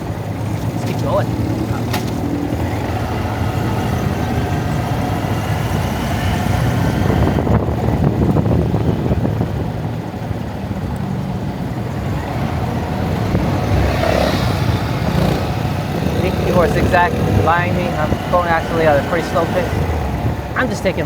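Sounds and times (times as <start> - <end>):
motorbike engine at low speed: 0.0 - 21.0.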